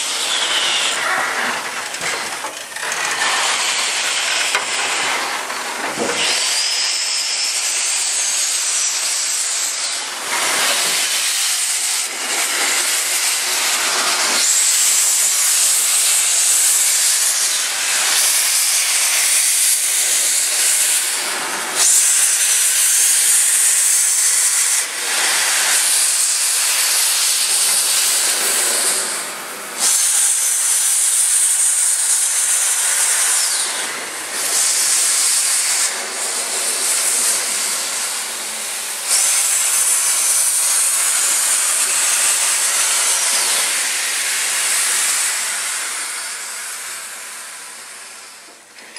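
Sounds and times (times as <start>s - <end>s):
steam locomotive hissing steam: 0.0s - 48.9s.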